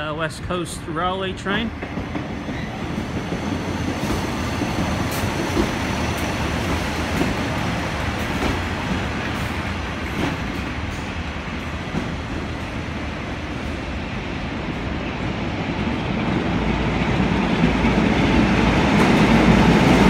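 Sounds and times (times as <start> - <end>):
diesel train rumbling past: 0.0 - 20.0.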